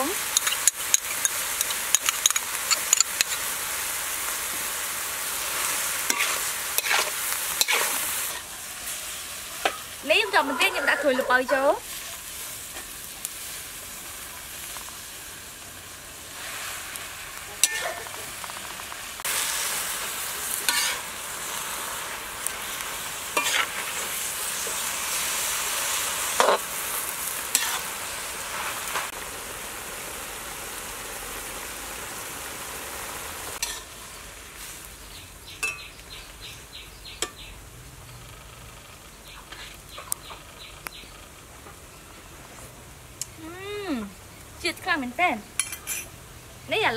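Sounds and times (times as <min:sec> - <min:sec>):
leaves sizzling in a wok: 0:00.0 - 0:46.9.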